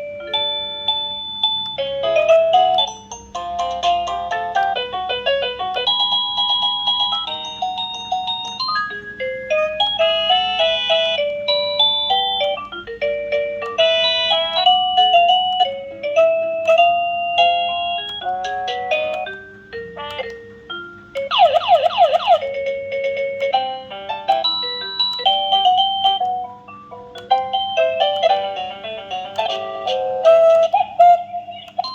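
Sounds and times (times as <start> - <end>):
electronic doorbell chime melody: 0.0 - 31.0.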